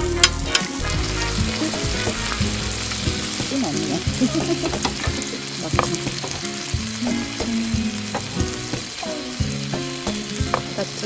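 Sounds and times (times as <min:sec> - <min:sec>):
food sizzling in a hot pan: 0:00.0 - 0:11.0.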